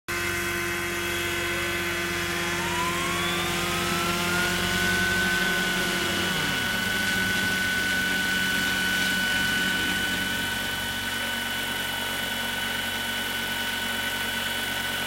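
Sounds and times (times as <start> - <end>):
model helicopter spooling up: 0.1 - 15.0.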